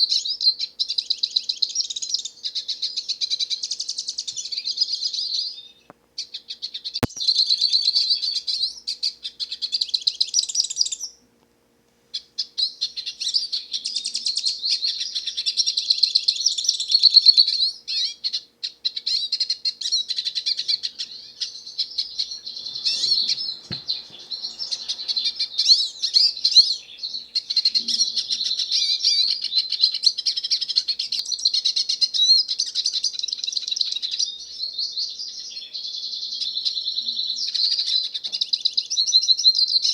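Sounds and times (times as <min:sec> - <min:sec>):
bird twittering song: 0:00.0 - 0:11.2, 0:12.1 - 0:39.9.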